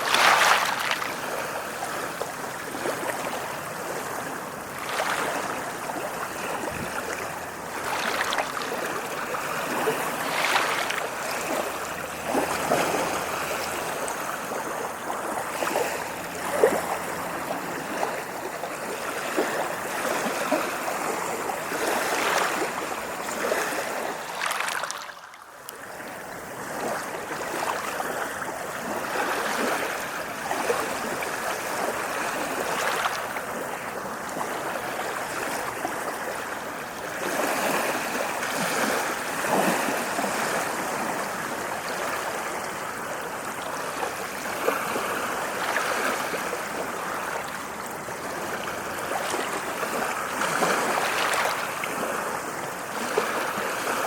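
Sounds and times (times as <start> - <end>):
ocean waves washing onto shore: 0.0 - 54.0.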